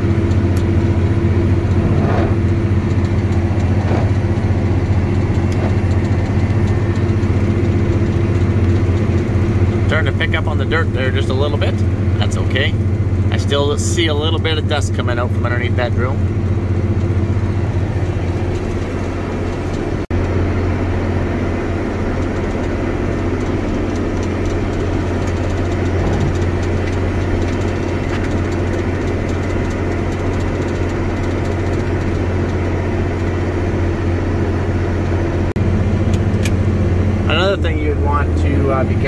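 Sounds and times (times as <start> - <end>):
tractor engine droning: 0.0 - 39.0.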